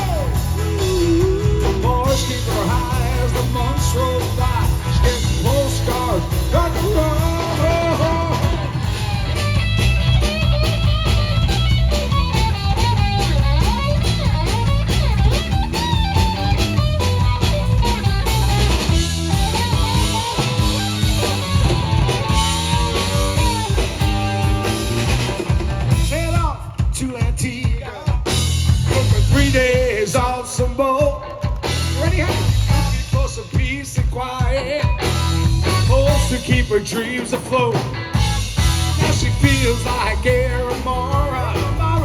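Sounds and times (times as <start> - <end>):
live band playing: 0.0 - 42.0.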